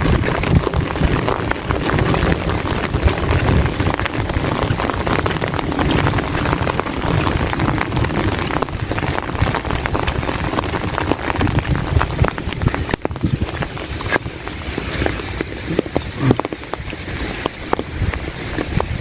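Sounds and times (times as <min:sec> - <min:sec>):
heavy rain falling: 0:00.0 - 0:19.0
wind rumble on microphone: 0:00.0 - 0:19.0.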